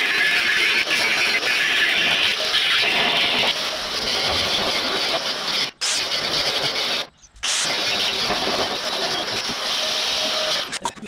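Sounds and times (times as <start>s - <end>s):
steel cutting hiss: 0.0s - 10.8s.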